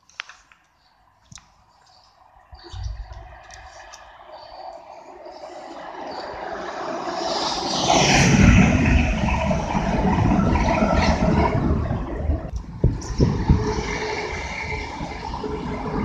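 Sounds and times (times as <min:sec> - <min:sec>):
train passing rumble: 0:02.2 - 0:16.0.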